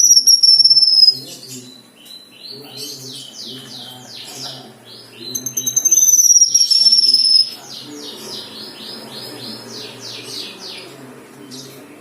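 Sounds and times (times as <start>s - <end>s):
songbird chirping rapidly: 0.0s - 12.0s.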